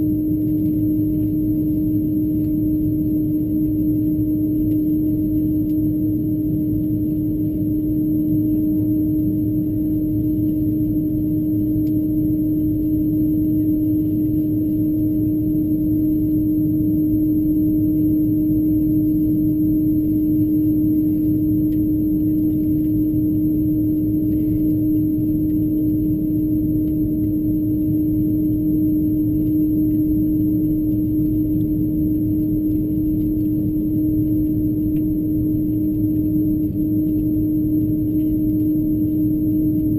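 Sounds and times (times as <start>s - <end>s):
aircraft cabin engine rumble: 0.0s - 39.9s
constant low hum tone: 0.0s - 39.9s.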